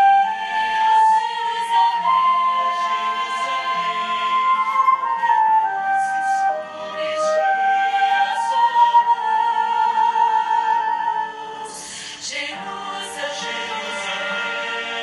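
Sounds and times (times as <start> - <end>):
flute playing a hymn melody: 0.0 - 15.0
recorded choir with accompaniment: 0.0 - 15.0.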